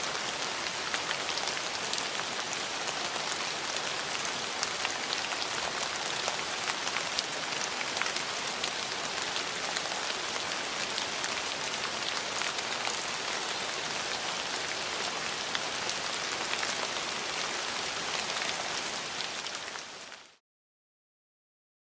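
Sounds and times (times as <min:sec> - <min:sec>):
rain pattering on hard surface: 0:00.0 - 0:20.4.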